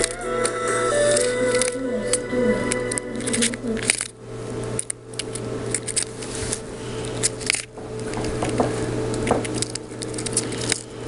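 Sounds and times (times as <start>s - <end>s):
rustling and handling clicks: 0.0s - 11.0s
steady low hum: 0.0s - 11.0s.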